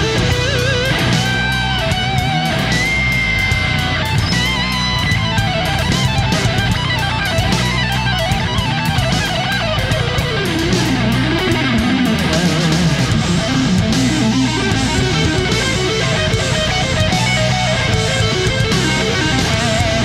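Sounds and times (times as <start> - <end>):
electric guitar rock music: 0.0 - 20.0.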